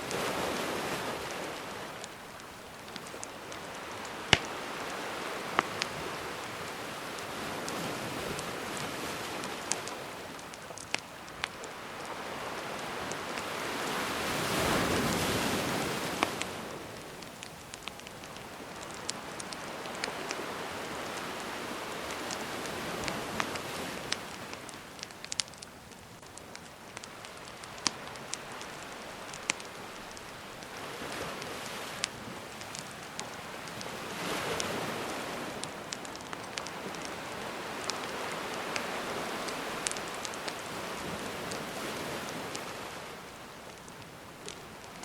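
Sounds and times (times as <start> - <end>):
sea waves washing in: 0.0 - 25.6, 26.7 - 45.0
campfire crackling: 0.0 - 45.0
gentle ocean surf: 0.0 - 45.0.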